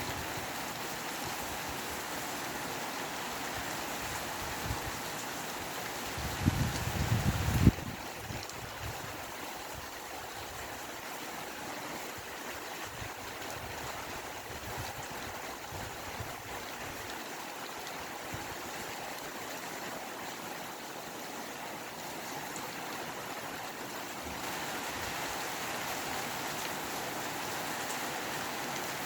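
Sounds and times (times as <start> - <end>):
steady rain: 0.0 - 29.0
wind: 0.0 - 29.0.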